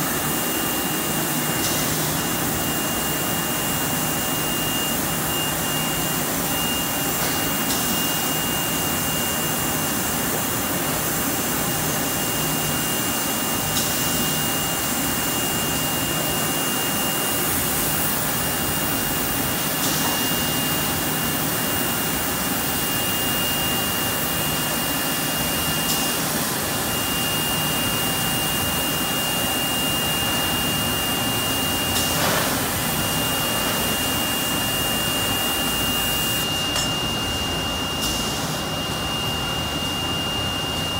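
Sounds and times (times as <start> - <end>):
high-pitched whine: 0.0 - 40.9.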